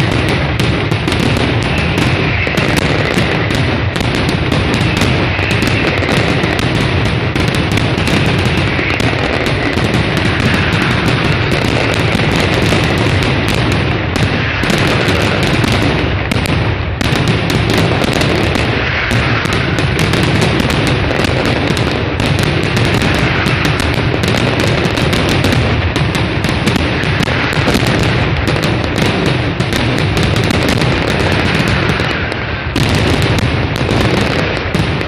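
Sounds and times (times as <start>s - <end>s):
firecracker barrage: 0.0s - 35.0s.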